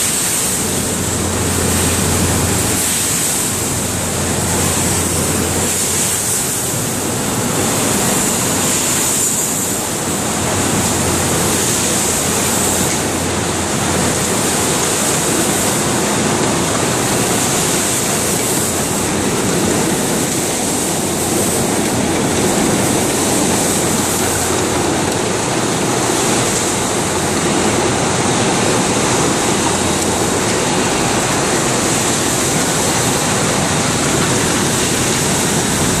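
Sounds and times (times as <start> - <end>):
blow moulding machine running: 0.0 - 36.0.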